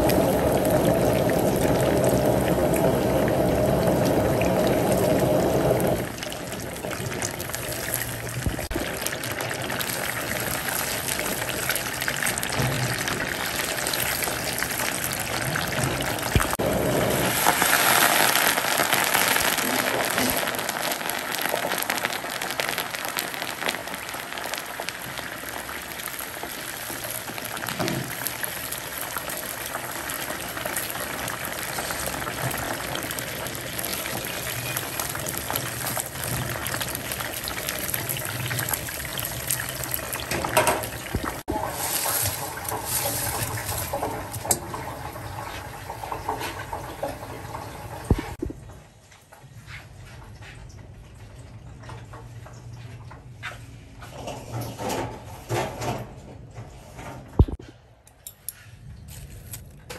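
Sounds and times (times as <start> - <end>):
water running and splashing: 0.0 - 48.4.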